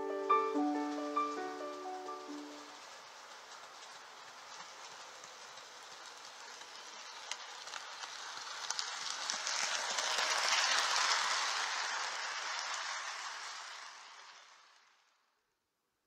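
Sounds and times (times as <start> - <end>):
model train passing: 0.0 - 15.6
wheel clicks on rails: 0.3 - 14.8.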